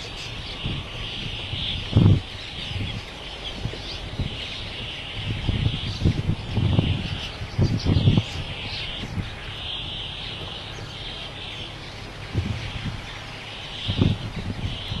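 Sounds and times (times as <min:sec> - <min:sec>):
flock of small birds twittering: 0:00.0 - 0:15.0.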